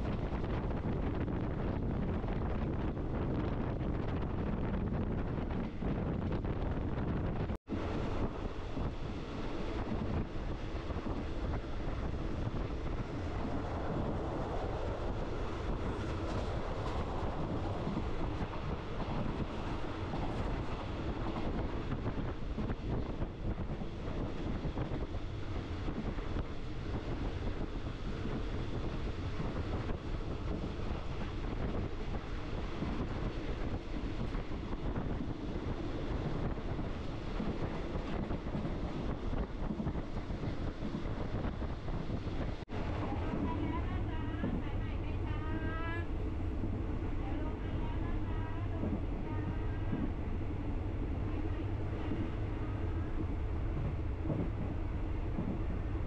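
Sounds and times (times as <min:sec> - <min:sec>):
moving train rumble: 0:00.0 - 0:56.0
wind on microphone: 0:00.0 - 0:56.0.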